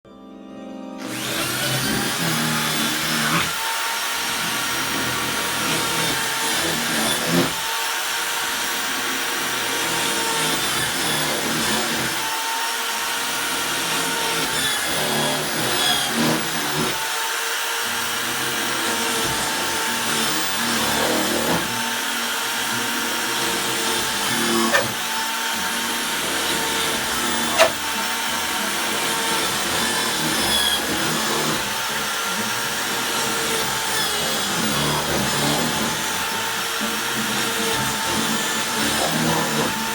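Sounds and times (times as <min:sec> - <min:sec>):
electric drill boring wood: 0:01.0 - 0:39.9.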